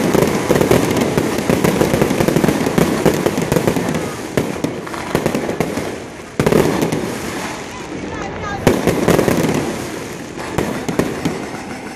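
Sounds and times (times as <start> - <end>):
fireworks bangs and crackles: 0.0 - 11.9.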